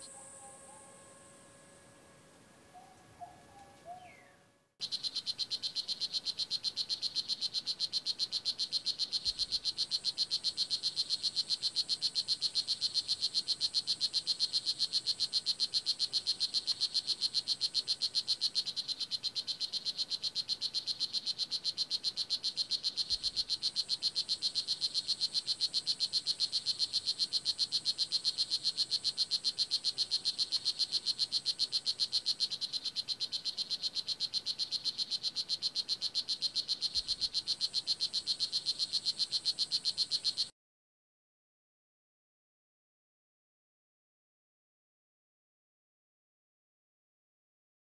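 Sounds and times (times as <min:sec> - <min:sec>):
frog buzzing chirps: 0:00.0 - 0:01.8, 0:02.7 - 0:40.5.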